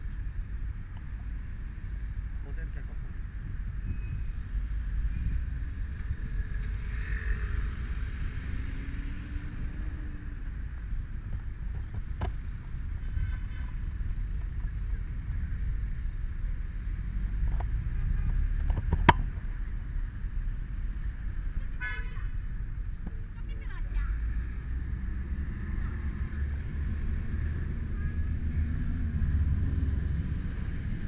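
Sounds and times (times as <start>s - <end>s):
surrounding traffic: 0.0s - 31.0s.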